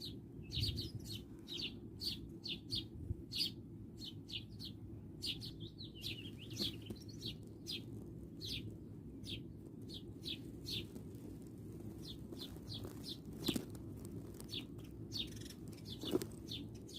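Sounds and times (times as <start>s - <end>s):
low background rumble: 0.0s - 16.9s
small birds chirping: 0.0s - 16.9s.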